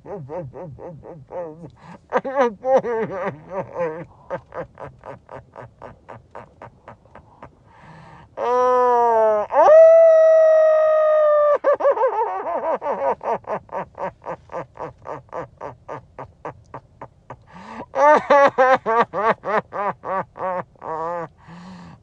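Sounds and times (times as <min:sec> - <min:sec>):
man cackling: 0:00.0 - 0:07.8, 0:08.4 - 0:21.4.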